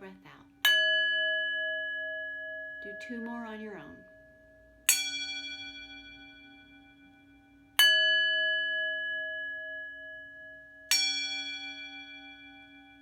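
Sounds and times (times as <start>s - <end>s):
bowl being struck: 0.0s - 13.0s
singing bowls ringing: 0.0s - 13.0s.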